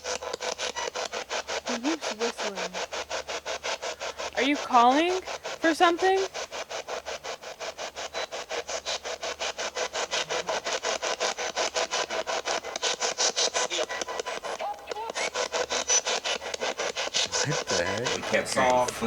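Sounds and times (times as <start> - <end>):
chopping radio static: 0.0 - 19.0.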